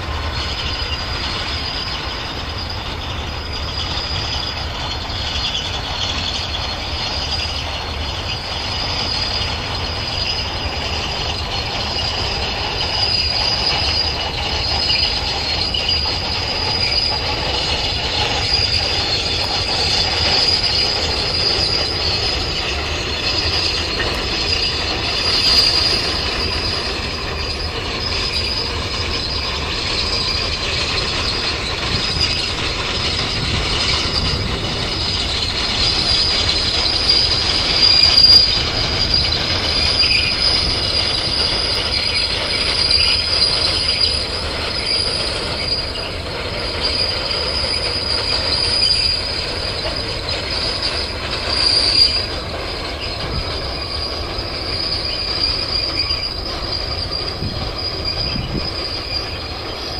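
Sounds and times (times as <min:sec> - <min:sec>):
train wagons rumbling: 0:00.0 - 0:59.9
train wheel squeal: 0:00.0 - 0:59.9.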